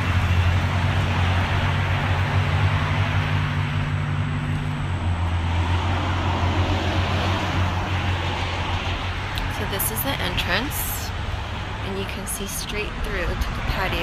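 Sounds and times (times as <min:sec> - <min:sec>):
traffic noise with engine hum: 0:00.0 - 0:14.0.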